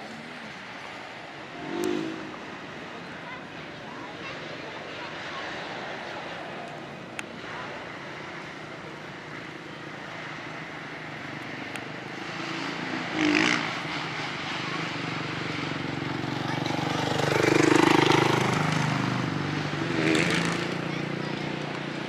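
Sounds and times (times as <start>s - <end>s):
motocross bike engines droning: 0.0s - 22.0s.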